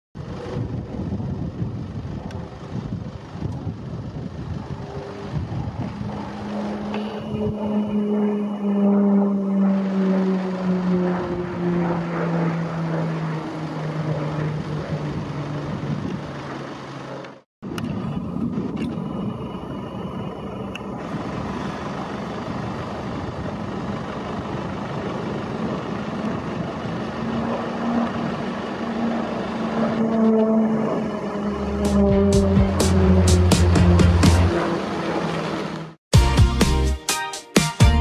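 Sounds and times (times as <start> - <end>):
turboprop aircraft engine drone: 0.2 - 36.0.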